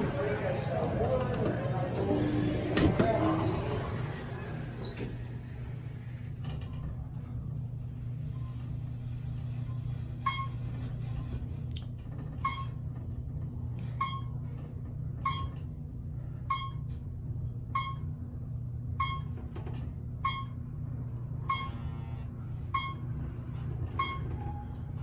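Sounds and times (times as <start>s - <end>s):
elevator humming: 0.0s - 25.0s.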